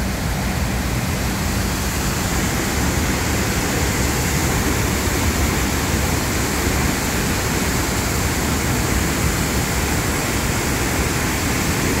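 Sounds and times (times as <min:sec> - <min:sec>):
turbulent water rushing: 0:00.0 - 0:12.0.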